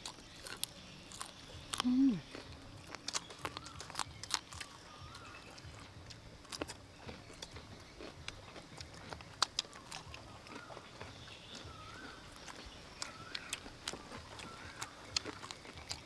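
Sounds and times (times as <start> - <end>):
cucumber crunching: 0.0 - 16.0.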